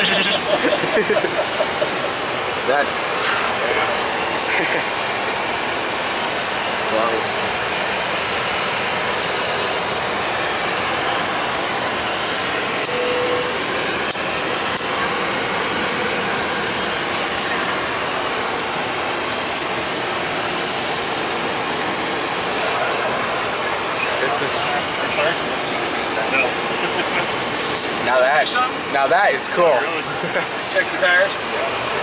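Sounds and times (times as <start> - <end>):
air-conditioning and fans rushing: 0.0 - 32.0.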